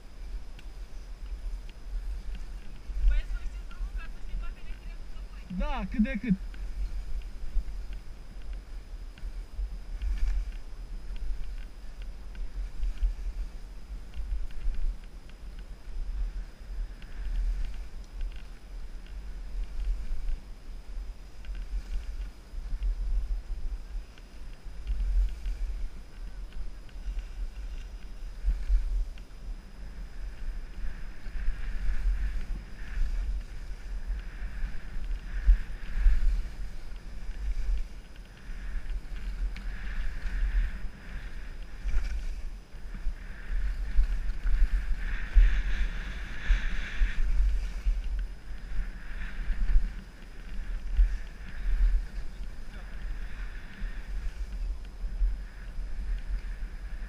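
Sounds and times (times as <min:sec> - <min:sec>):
skis scraping over snow: 0:00.0 - 0:57.0
wind buffeting microphone: 0:00.0 - 0:57.0.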